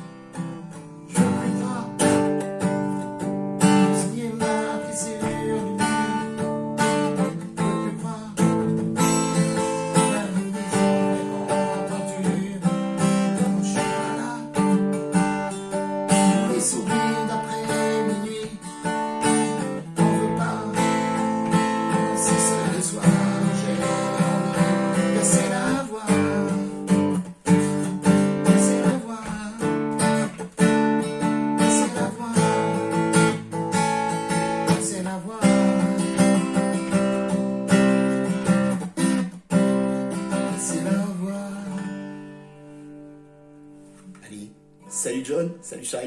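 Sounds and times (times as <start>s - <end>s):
acoustic guitar strumming: 0.0s - 46.0s.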